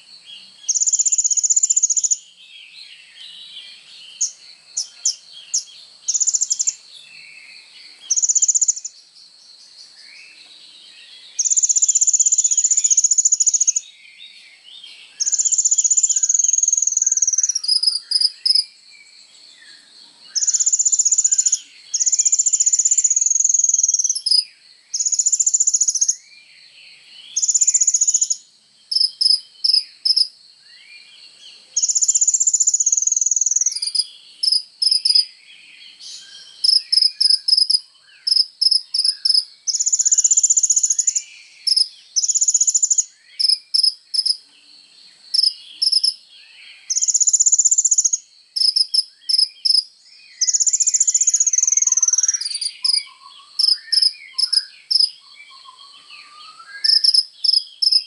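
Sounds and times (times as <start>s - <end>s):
bird chirps: 0.0s - 58.0s.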